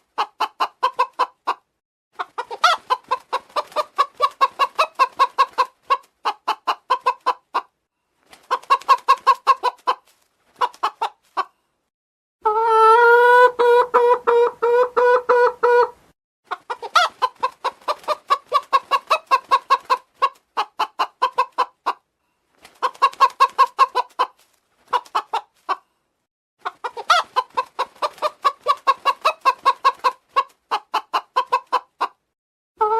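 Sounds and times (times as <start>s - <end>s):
chicken clucking: 0.0s - 7.8s, 8.4s - 11.7s, 12.4s - 22.1s, 22.7s - 26.0s, 26.6s - 32.9s.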